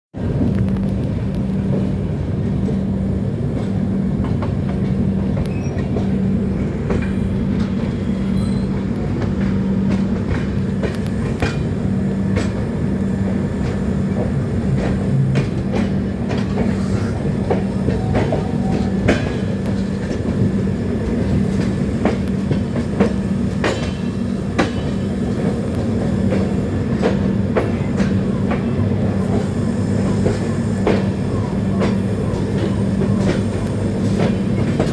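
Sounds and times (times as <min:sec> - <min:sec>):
train rumbling along rails: 0:00.1 - 0:34.9
wheels clacking on track: 0:00.2 - 0:34.9.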